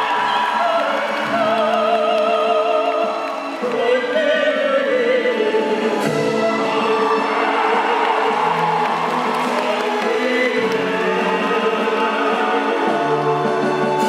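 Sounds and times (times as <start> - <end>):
operatic singing with vibrato: 0.0 - 14.0
orchestra playing: 1.1 - 14.0.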